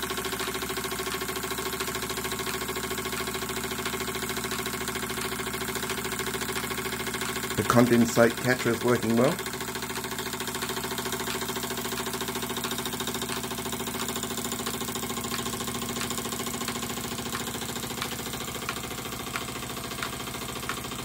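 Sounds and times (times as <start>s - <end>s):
steam engine chuffing: 0.0s - 21.0s
sharp ticks: 0.2s - 21.0s.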